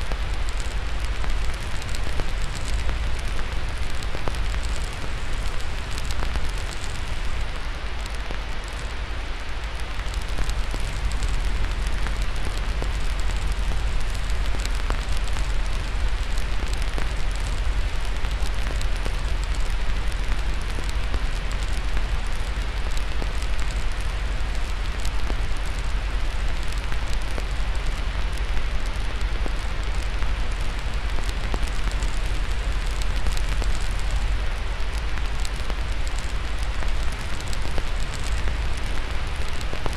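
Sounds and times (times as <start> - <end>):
fireplace fire crackling: 0.0 - 39.9
steady hiss with deep rumble: 0.0 - 39.9.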